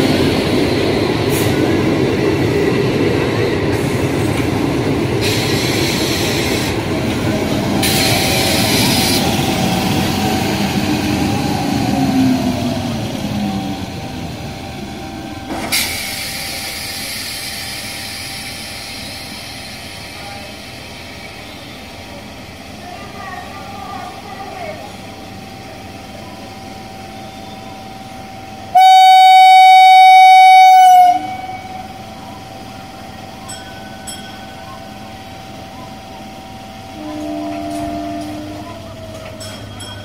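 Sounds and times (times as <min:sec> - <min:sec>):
train wheels rumbling and clattering: 0:00.0 - 0:40.0.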